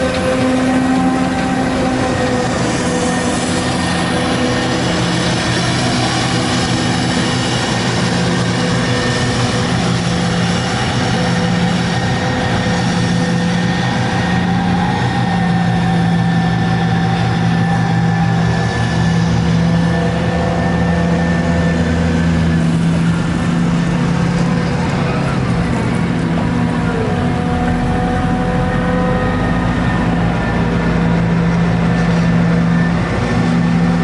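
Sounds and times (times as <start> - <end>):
diesel engines droning: 0.0 - 34.0.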